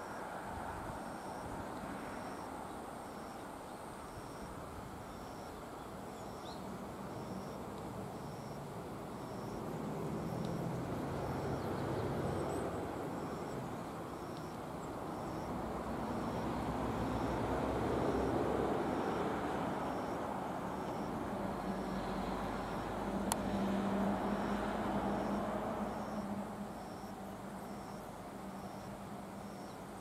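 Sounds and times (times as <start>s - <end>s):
insect chirping: 0.0s - 30.0s
vehicles passing on road: 0.0s - 30.0s.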